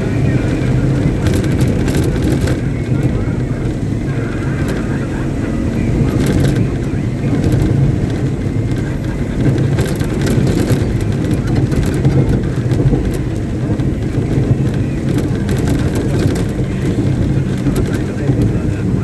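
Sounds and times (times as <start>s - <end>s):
truck diesel engine humming: 0.0s - 19.0s.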